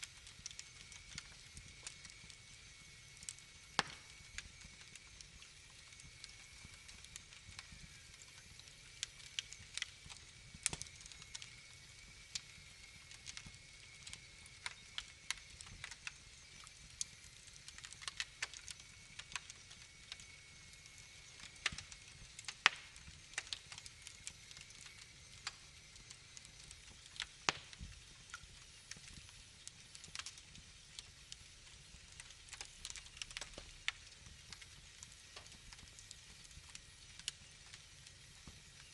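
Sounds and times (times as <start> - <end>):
fire popping and snapping: 0.0 - 38.9
wood fire crackling: 0.0 - 38.9.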